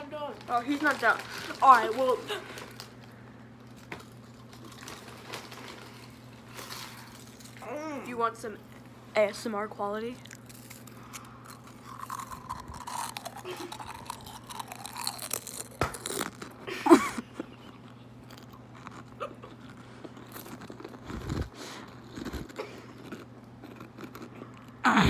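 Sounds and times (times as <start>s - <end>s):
potato chip crunching and chewing: 0.4s - 7.7s, 10.1s - 24.8s.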